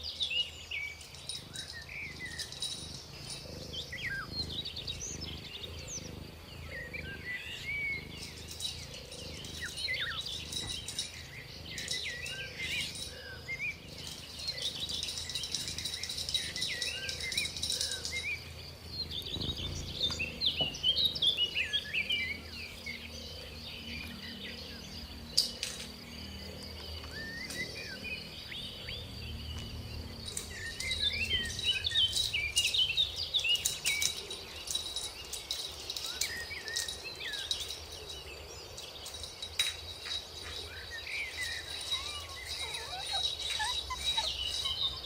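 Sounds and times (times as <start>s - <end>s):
insect trill buzz: 0.0s - 45.0s
small birds chirping: 0.0s - 45.0s.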